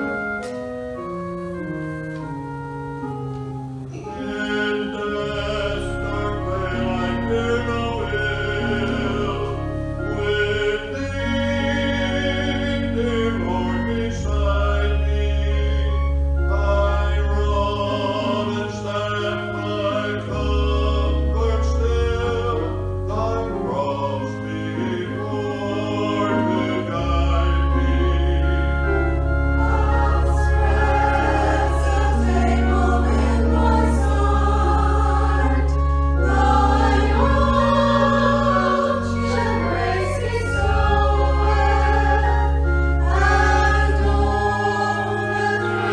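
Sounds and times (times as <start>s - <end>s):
low held bass notes: 0.0s - 45.9s
choir singing worship song: 3.9s - 45.9s.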